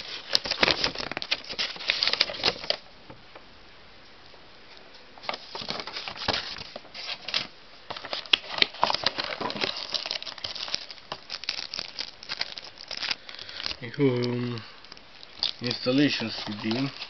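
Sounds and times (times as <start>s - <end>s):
packaging crinkling and rustling: 0.0s - 2.9s, 5.2s - 17.0s.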